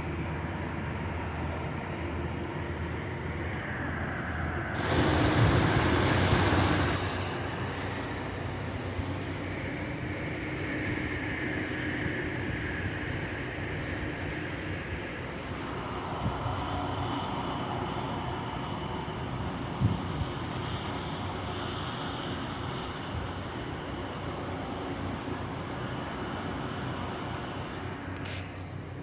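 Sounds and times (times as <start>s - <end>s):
moving vehicle rumble: 0.7s - 29.0s
wind noise: 3.3s - 28.4s.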